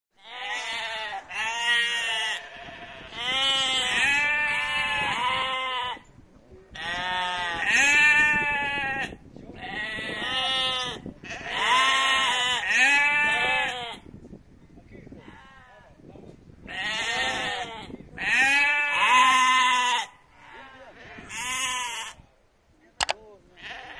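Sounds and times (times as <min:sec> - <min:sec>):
sheep bleating: 0:00.2 - 0:06.0, 0:06.7 - 0:14.0, 0:16.7 - 0:22.2, 0:23.0 - 0:23.9.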